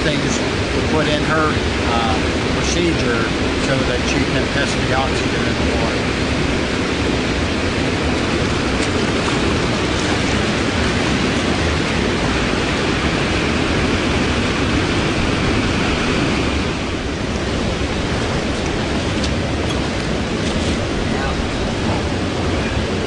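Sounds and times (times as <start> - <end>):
creek flowing over its bed: 0.0 - 23.0.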